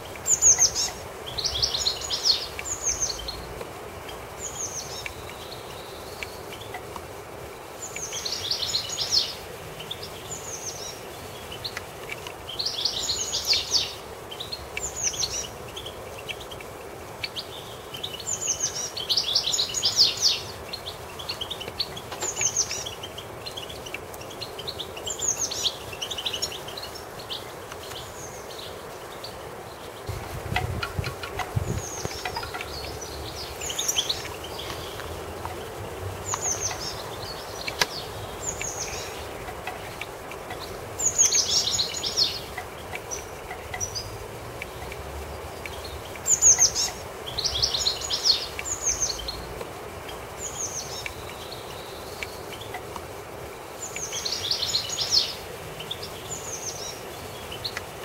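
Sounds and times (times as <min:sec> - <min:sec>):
background hiss: 0:00.0 - 0:58.0
songbird singing: 0:00.0 - 0:58.0.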